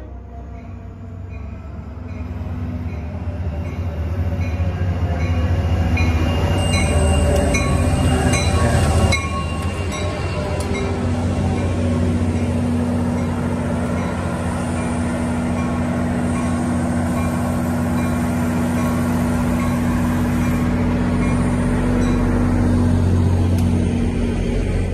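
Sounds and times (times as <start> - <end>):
diesel locomotive engine humming: 0.0 - 24.9.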